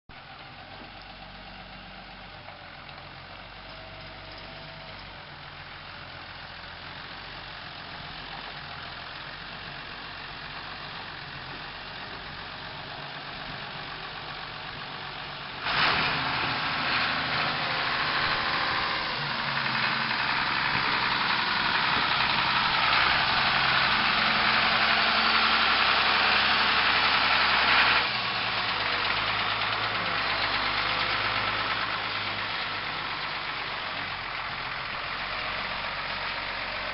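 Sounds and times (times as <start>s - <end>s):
dump truck engine running: 0.1s - 36.9s.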